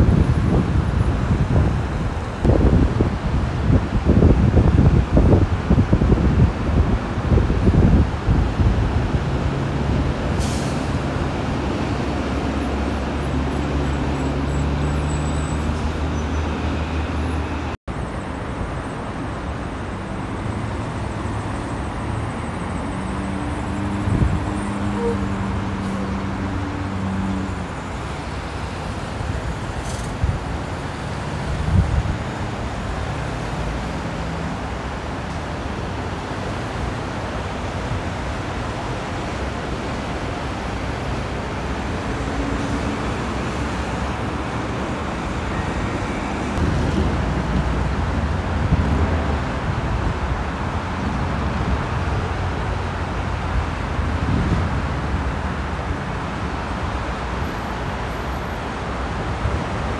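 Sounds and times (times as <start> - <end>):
truck diesel engines droning: 0.0 - 59.9.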